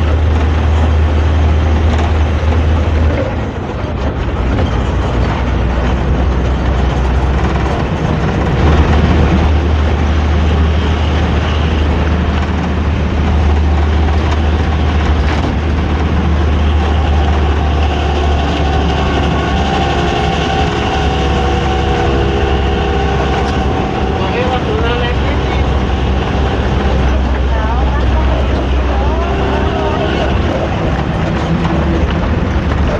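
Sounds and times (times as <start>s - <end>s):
bus diesel engine growl: 0.0s - 32.9s
cabin and road rumble: 0.0s - 32.9s
steady tones: 5.4s - 32.9s.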